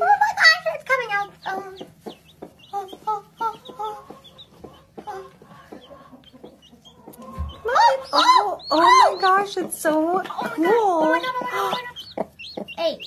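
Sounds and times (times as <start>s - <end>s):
chick peeping: 0.0s - 13.0s
hen clucking: 0.0s - 13.0s.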